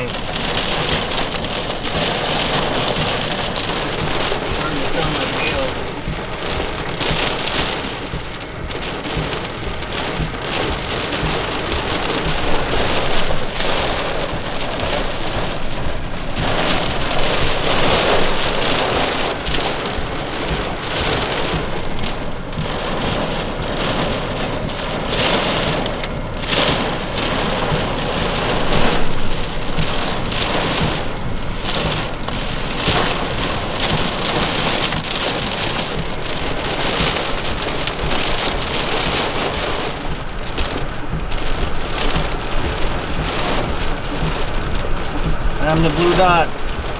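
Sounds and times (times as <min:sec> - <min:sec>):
heavy rain pelting a car: 0:00.0 - 0:46.9.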